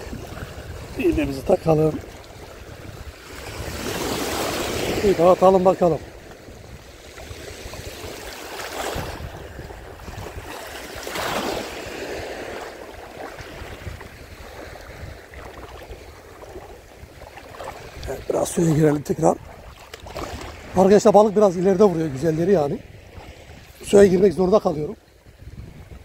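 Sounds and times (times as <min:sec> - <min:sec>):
small waves lapping on pebbles: 0:00.0 - 0:24.3
wind rumble on microphone: 0:00.0 - 0:26.0.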